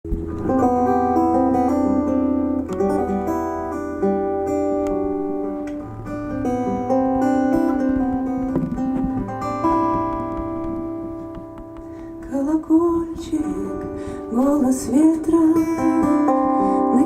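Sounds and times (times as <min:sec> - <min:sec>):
acoustic guitar picked notes: 0:00.0 - 0:17.0.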